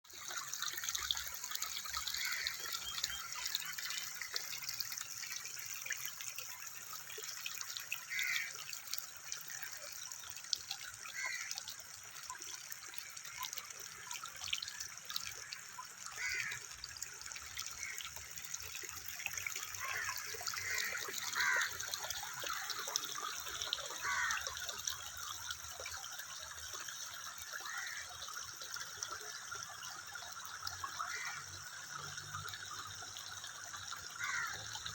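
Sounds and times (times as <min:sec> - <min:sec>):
water trickling: 0:00.0 - 0:34.9.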